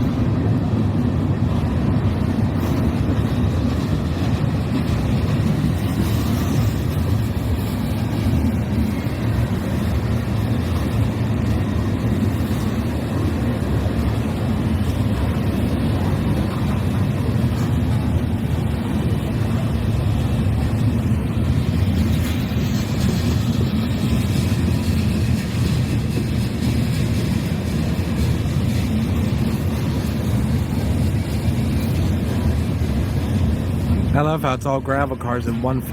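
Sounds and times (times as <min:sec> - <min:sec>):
freight train wheels rumbling on rail: 0:00.0 - 0:35.9.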